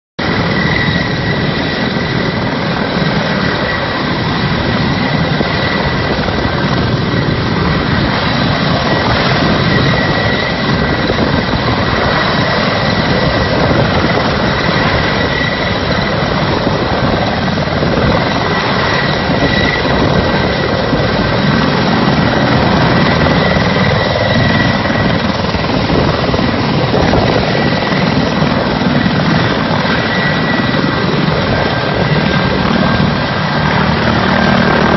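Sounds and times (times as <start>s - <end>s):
helicopter rotor and engine: 0.2s - 34.9s
helicopter turbine whine: 0.2s - 34.9s.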